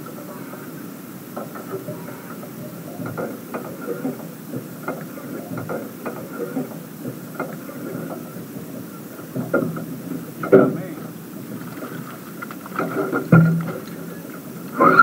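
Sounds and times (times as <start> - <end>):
waves slapping against hull: 1.3 - 14.8.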